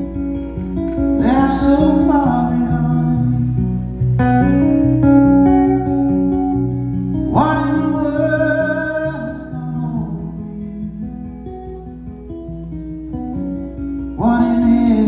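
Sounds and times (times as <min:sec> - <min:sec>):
acoustic guitar picked notes: 0:00.0 - 0:15.0.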